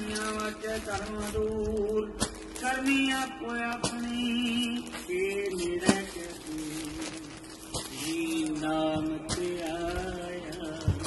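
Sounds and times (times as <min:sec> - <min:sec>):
plastic wrapping crackle: 0:00.0 - 0:11.0.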